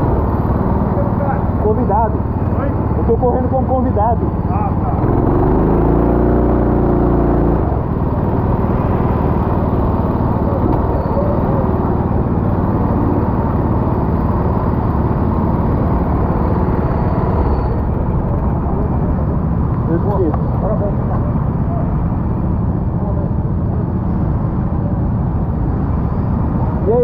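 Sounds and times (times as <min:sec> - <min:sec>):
kart engine drone: 0:00.0 - 0:27.0.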